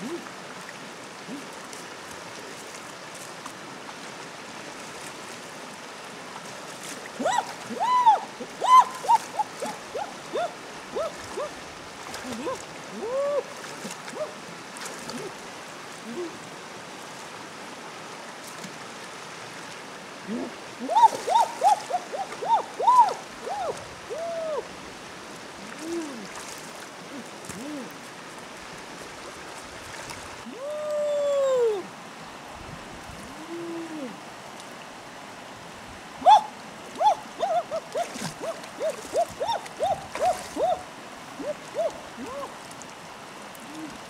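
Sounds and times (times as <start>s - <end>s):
forest stream rushing: 0.0s - 44.0s.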